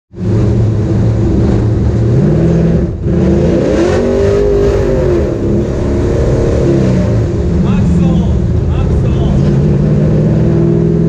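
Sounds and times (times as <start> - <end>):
engine revving inside cab: 0.1 - 11.0.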